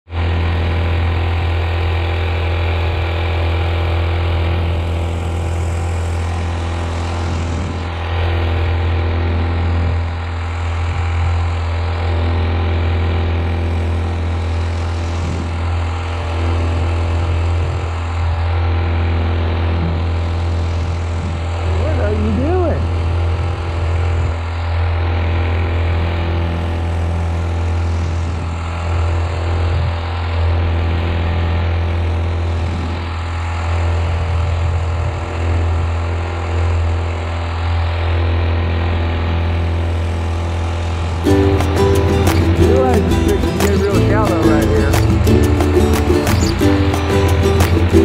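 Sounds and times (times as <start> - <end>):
boat motor running: 0.1 - 48.0.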